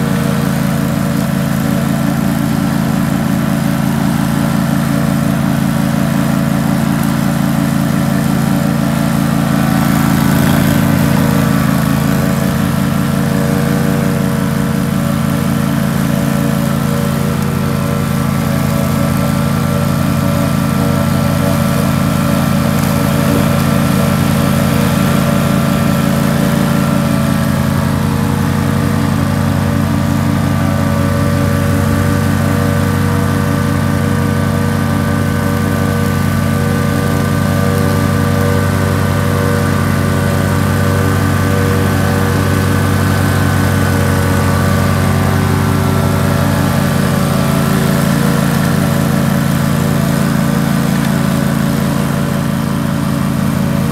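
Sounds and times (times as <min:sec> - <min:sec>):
mower engine running: 0:00.0 - 0:53.9.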